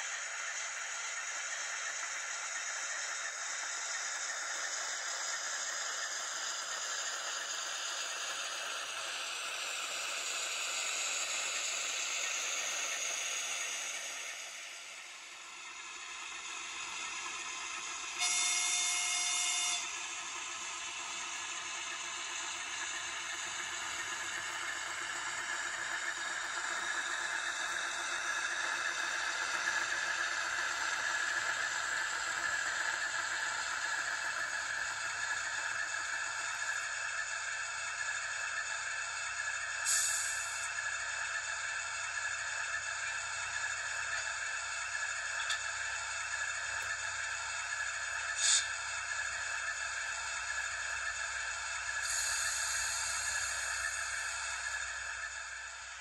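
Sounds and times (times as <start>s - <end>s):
model train rattling on track: 0.0s - 56.0s
tiny speaker diesel engine sound: 0.0s - 56.0s.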